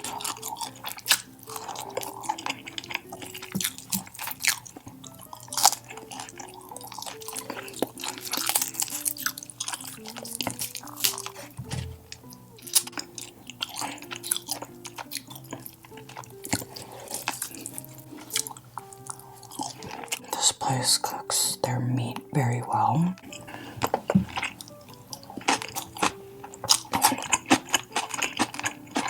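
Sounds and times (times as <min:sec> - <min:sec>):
close chewing of meat: 0:00.0 - 0:29.0
light background music: 0:00.0 - 0:29.0.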